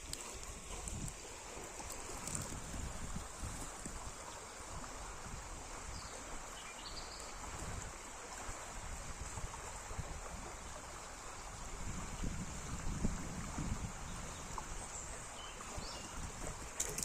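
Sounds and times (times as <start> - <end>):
wind buffeting microphone: 0.0 - 6.4, 7.4 - 17.0
river water rushing: 0.0 - 17.0.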